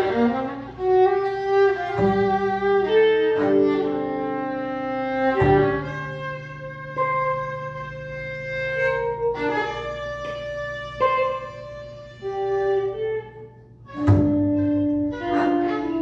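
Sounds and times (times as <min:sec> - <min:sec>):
viola long held notes: 0:00.0 - 0:16.0.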